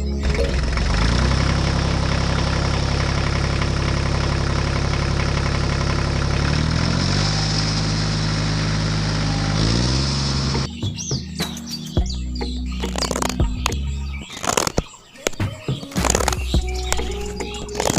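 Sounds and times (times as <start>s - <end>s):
tractor engine running: 0.0s - 11.1s, 12.0s - 17.9s.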